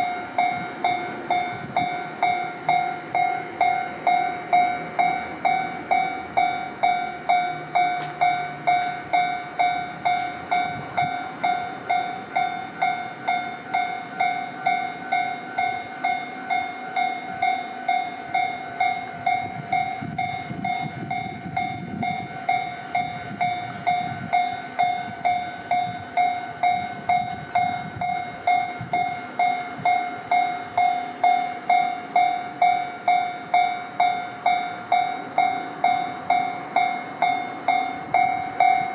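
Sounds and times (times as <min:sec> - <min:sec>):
level crossing bell ringing: 0:00.0 - 0:38.9
train rumble and wheel clatter: 0:00.0 - 0:38.9.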